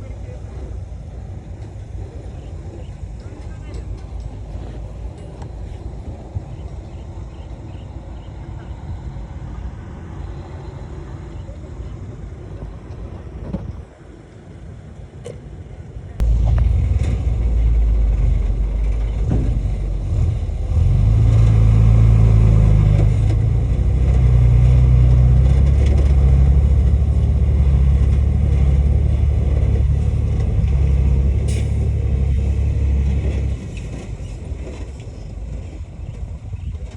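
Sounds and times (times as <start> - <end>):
heavy diesel engine rumble: 0.0 - 36.9.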